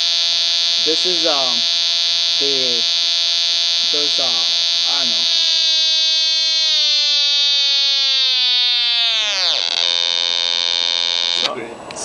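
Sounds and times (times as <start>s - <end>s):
buzzy electronic tone: 0.0s - 11.5s.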